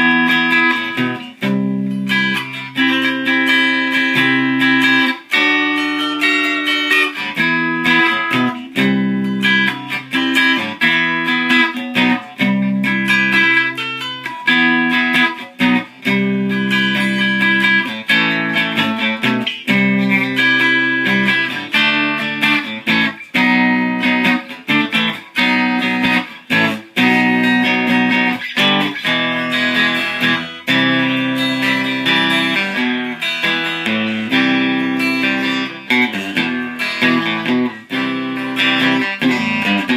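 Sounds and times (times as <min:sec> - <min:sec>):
cigar box guitar playing: 0:00.0 - 0:39.9.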